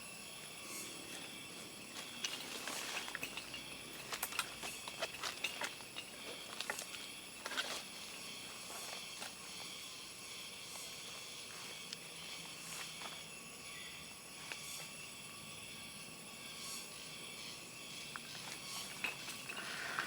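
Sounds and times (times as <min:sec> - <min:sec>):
insect chorus at night: 0:00.0 - 0:20.0.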